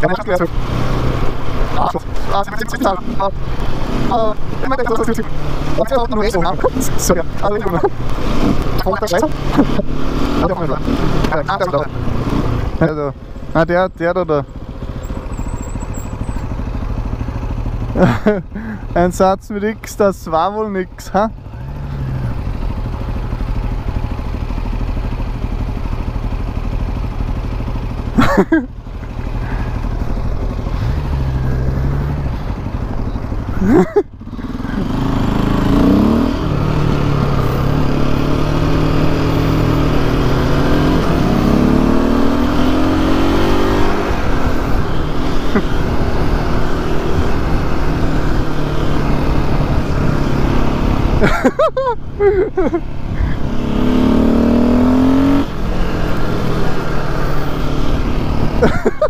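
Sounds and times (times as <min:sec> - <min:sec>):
motorcycle engine accelerating: 0:00.0 - 0:19.0, 0:20.4 - 0:59.0.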